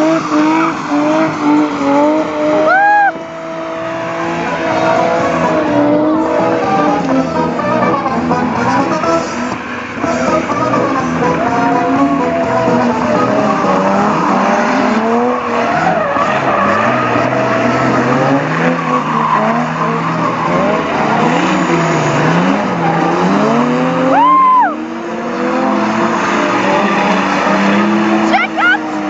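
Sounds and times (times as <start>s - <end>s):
car engine revving: 0.0s - 29.0s
tyres skidding and squealing: 0.0s - 29.0s.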